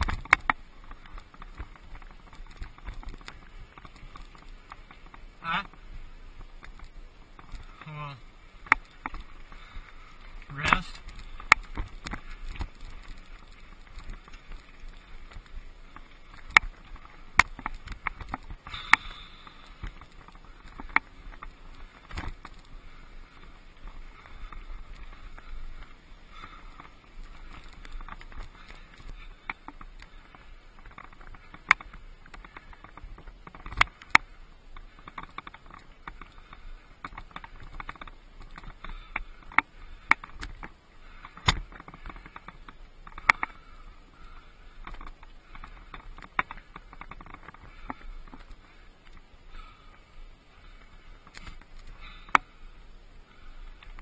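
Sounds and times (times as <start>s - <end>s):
bike tyres crunching on gravel: 0.0s - 52.6s.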